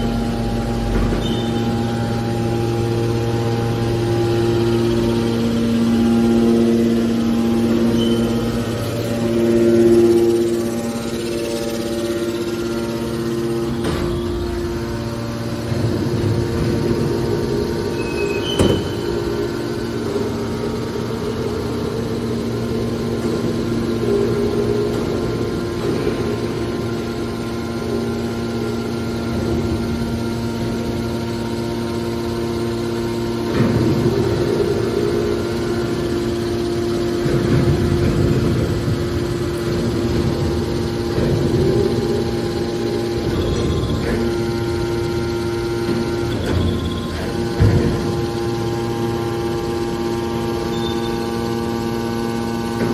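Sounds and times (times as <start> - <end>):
hydraulic baler motor humming: 0.0 - 52.9.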